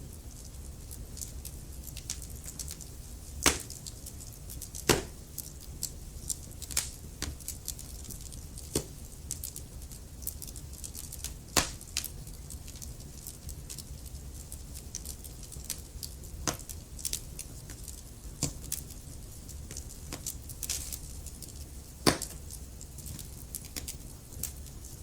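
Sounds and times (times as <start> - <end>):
low rumble of flames: 0.0 - 25.0
wood fire crackling: 0.0 - 25.0
fire sharp pops: 0.8 - 24.8.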